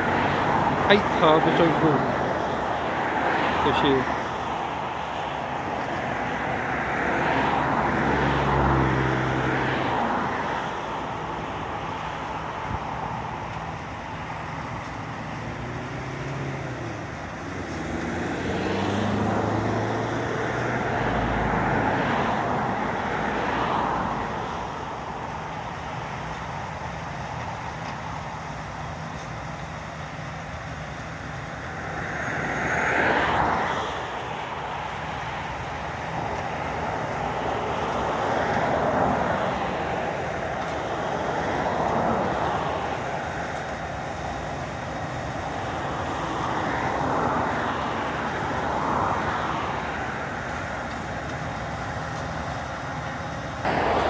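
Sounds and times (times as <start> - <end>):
background traffic rumble: 0.0 - 54.0
vehicles passing: 0.0 - 54.0.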